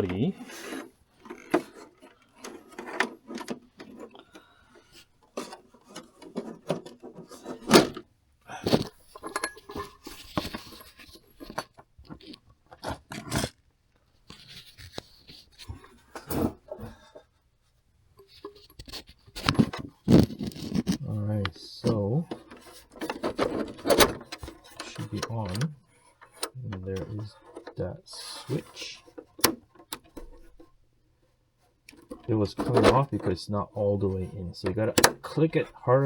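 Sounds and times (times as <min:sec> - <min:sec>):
plastic rubbing and clicking: 0:00.0 - 0:17.4, 0:18.2 - 0:36.0.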